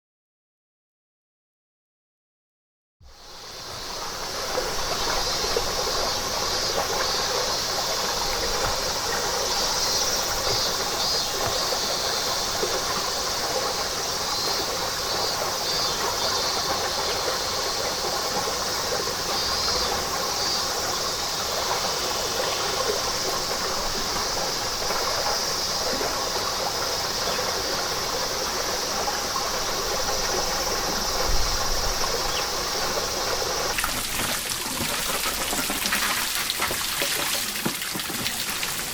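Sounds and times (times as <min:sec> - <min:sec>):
cicadas droning: 0:03.1 - 0:38.9
running water: 0:03.1 - 0:38.9.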